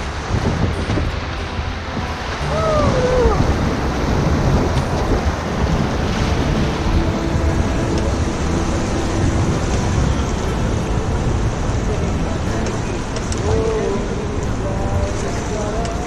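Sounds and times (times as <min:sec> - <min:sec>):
low water rumble: 0:00.0 - 0:16.0
river rapids rushing: 0:00.0 - 0:16.0.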